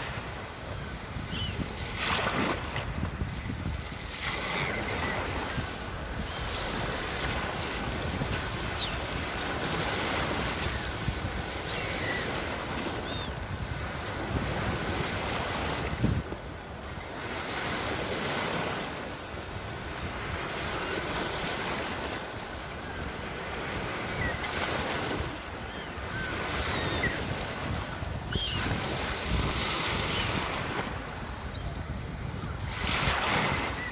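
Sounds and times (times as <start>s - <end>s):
sea waves breaking: 0.0s - 33.9s.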